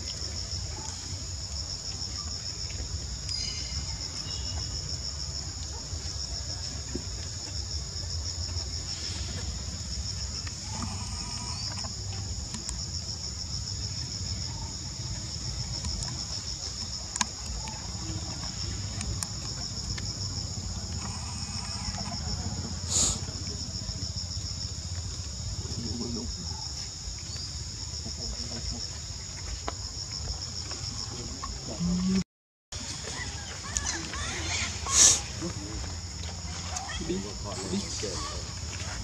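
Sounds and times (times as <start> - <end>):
insects chorus trilling: 0.0 - 32.2, 32.8 - 39.0.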